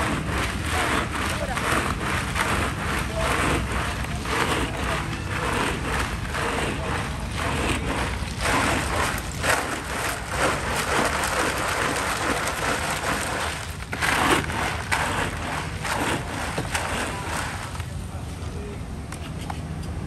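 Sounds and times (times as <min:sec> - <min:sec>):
ice cubes clattering in a drum: 0:00.0 - 0:17.8
distant traffic rumble: 0:00.0 - 0:20.0.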